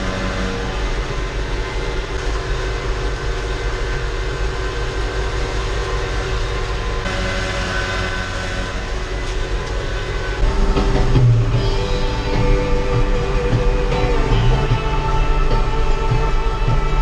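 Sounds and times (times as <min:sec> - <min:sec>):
machinery whining: 0:00.0 - 0:17.0
tractor diesel engine running: 0:00.0 - 0:17.0.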